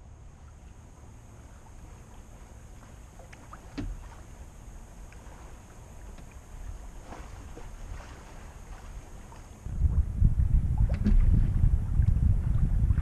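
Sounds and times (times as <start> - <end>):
water lapping against hull: 0.0 - 13.0
wind rumble on microphone: 0.0 - 13.0.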